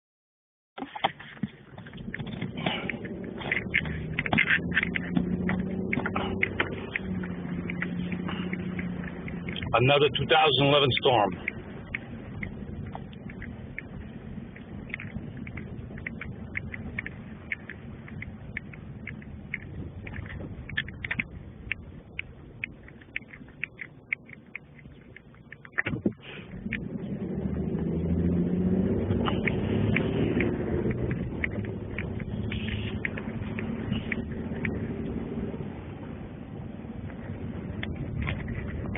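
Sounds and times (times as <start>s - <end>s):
crackles and clicks: 0.8s - 38.9s
vehicle engine rumbling: 0.8s - 38.9s.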